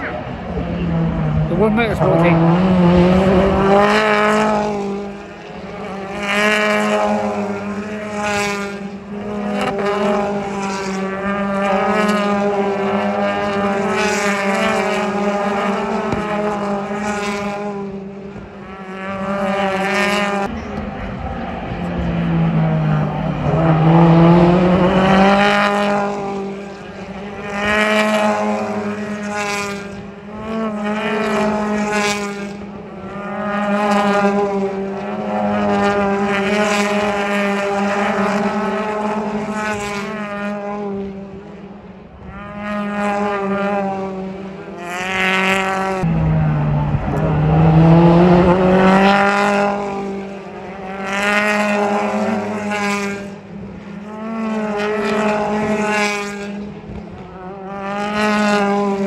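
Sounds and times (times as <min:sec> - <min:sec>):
racing car engines passing: 0:00.0 - 0:59.0.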